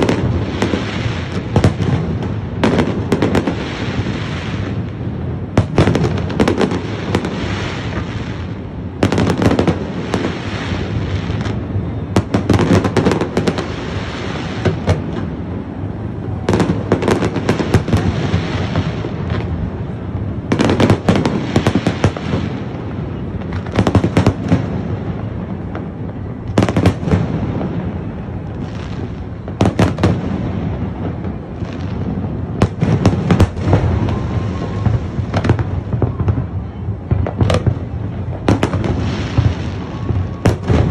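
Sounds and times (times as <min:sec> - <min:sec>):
firework bangs and crackling: 0:00.0 - 0:40.9.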